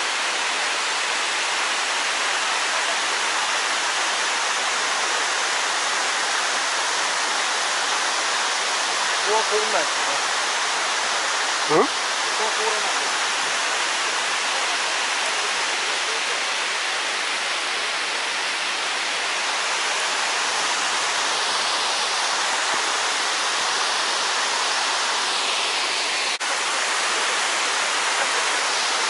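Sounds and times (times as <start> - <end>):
waterfall hissing rush: 0.0 - 29.0.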